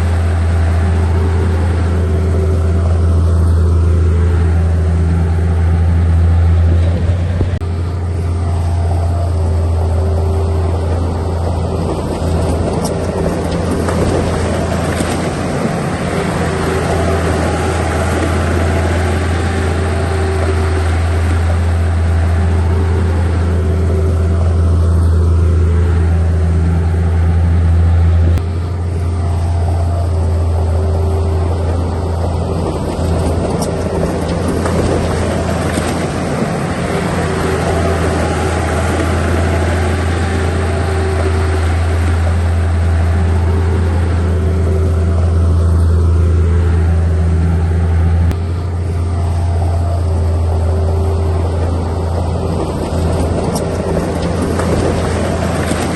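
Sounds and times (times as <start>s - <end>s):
heavy diesel machinery engine droning: 0.0s - 55.9s.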